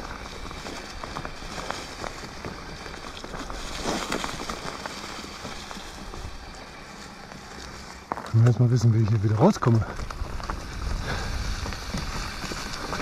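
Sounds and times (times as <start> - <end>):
dry undergrowth rustling and snapping: 0.0 - 13.0.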